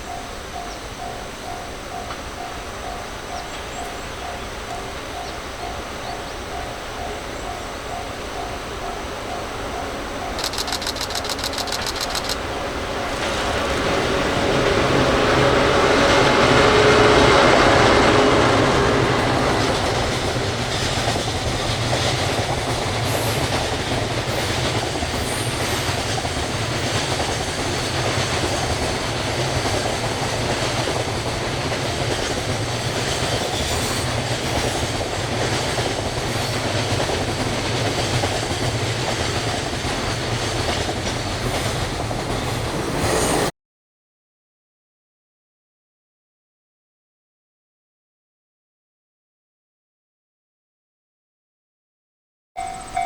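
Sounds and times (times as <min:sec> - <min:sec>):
train wheels clacking over rails: 0:00.1 - 0:43.5.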